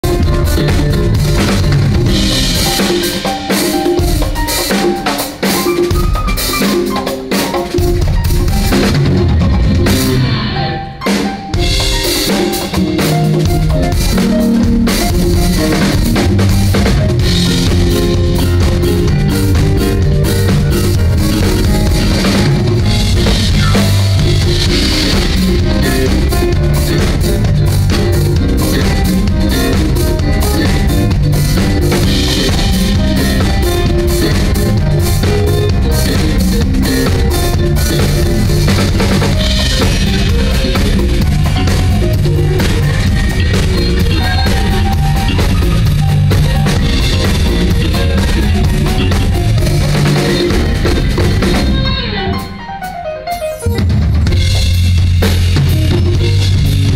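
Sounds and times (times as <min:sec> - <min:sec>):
drum kit: 0:00.0 - 0:56.9
live band playing: 0:00.0 - 0:56.9.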